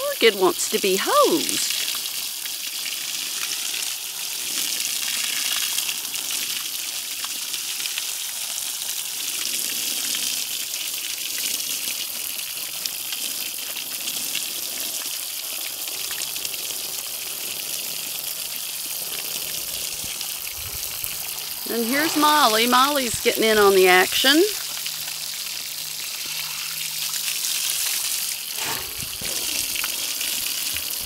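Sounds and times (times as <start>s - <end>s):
garden hose spraying water: 0.0s - 31.0s.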